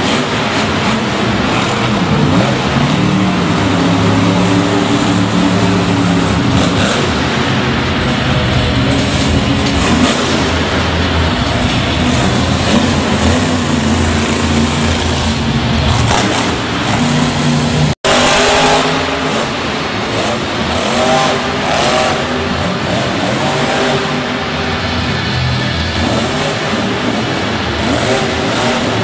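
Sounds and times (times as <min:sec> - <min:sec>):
truck engines revving hard: 0:00.0 - 0:29.0.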